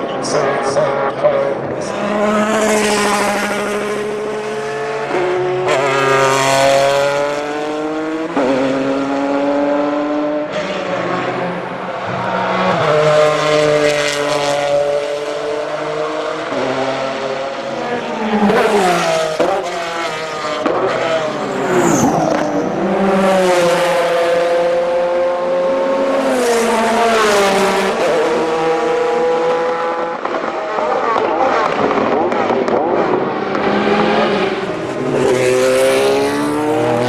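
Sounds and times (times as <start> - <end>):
race car engine at high revs: 0.0 - 37.0.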